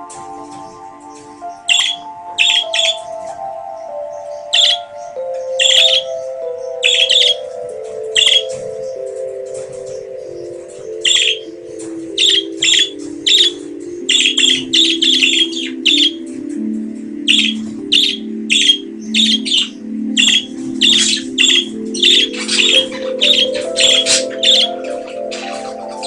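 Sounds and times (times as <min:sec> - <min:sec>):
budgerigars chirping: 0:00.0 - 0:26.0
low sustained musical notes: 0:00.0 - 0:26.0.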